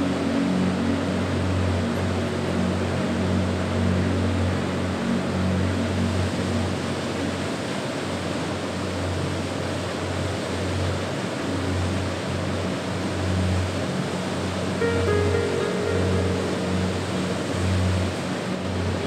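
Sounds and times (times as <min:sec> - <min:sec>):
distant waterfall roar: 0:00.0 - 0:19.0
soft low music pad: 0:00.0 - 0:19.0.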